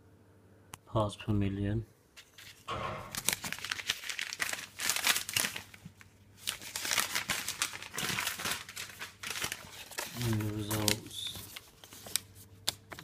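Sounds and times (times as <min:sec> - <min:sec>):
paper crinkling and rustling: 0:02.2 - 0:13.0.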